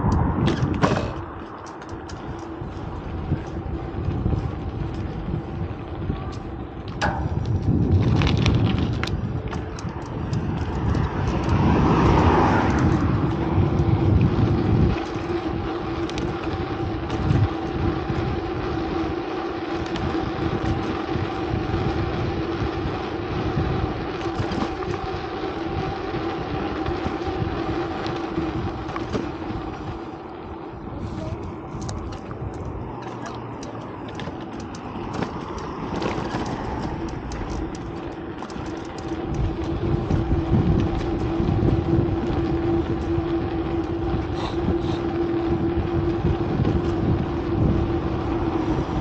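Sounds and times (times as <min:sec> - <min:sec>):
heavy low rumble: 0:00.0 - 0:49.0
traffic noise: 0:00.0 - 0:49.0
vehicle humming: 0:00.0 - 0:49.0.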